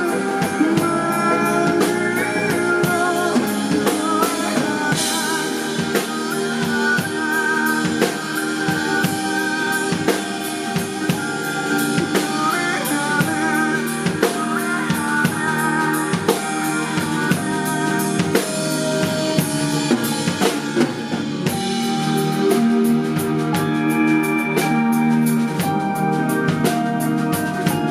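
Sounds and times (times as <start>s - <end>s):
drum kit beat: 0.0s - 27.9s
live band playing: 0.0s - 27.9s
wavering melodic line: 0.0s - 27.9s.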